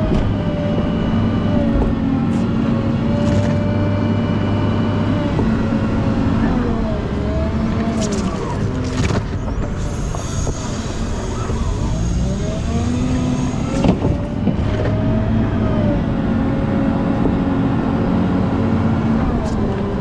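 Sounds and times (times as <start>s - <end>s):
wheel loader diesel engine: 0.0s - 20.0s.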